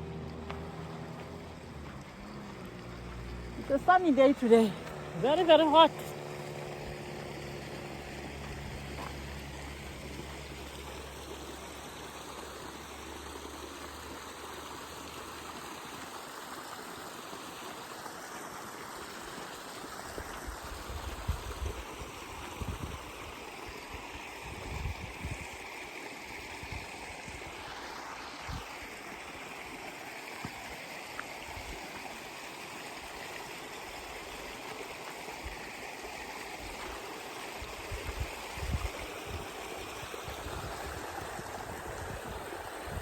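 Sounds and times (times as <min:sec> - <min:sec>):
stream rushing water: 0:00.0 - 0:43.0.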